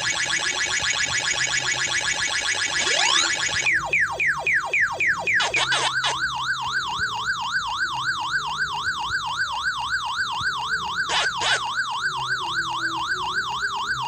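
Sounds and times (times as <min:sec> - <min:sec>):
electronic siren warbling: 0:00.0 - 0:14.0.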